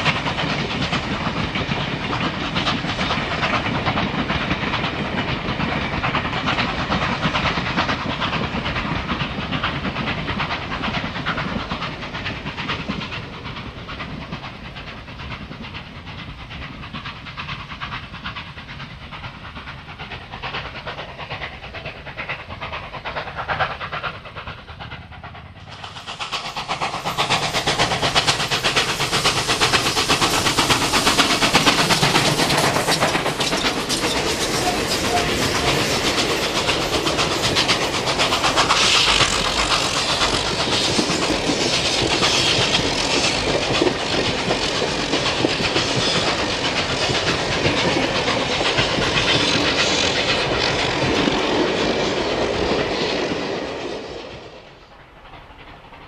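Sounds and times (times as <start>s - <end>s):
steam locomotive exhaust: 0.0s - 56.0s
train wheels on rail: 0.0s - 56.0s.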